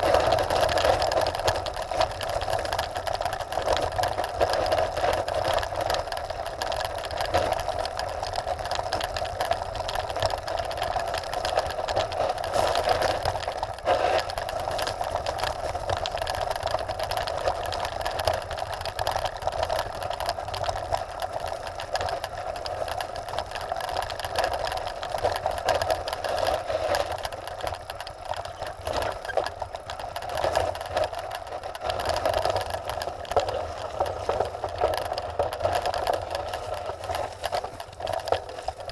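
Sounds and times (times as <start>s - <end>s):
bike rattling: 0.0s - 38.9s
tyres crunching over stones: 0.0s - 38.9s.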